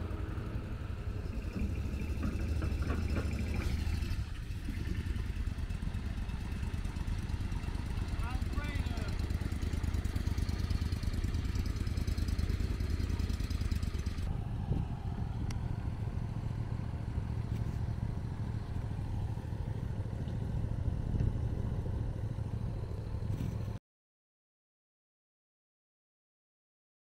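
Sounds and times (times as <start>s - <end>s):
engine rumbling: 0.0s - 23.8s.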